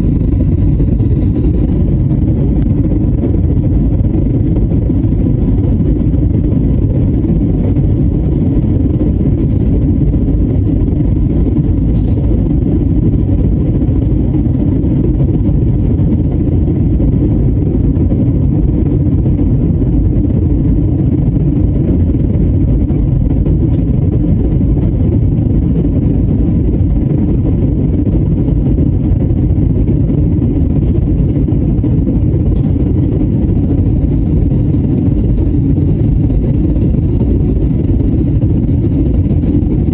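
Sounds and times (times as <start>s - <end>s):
jet engine and airflow drone: 0.0s - 39.9s.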